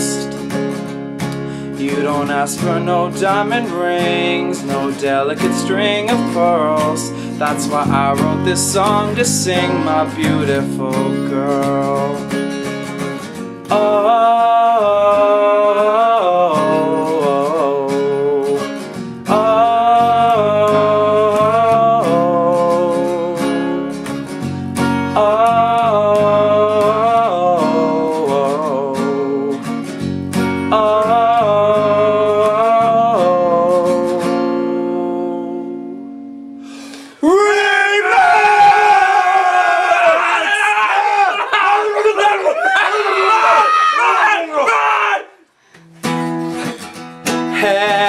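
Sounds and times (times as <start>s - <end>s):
acoustic guitar playing: 0.0s - 40.2s, 45.5s - 48.0s.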